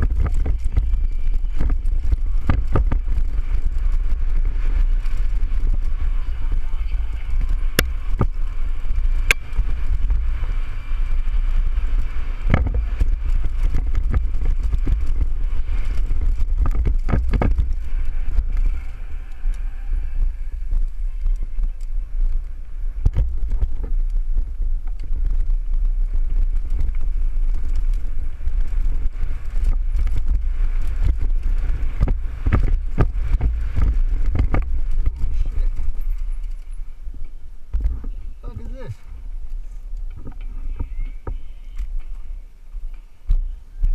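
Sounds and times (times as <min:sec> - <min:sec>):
bike rattling over rough trail: 0:00.0 - 0:43.9
wind buffeting microphone: 0:00.0 - 0:43.9.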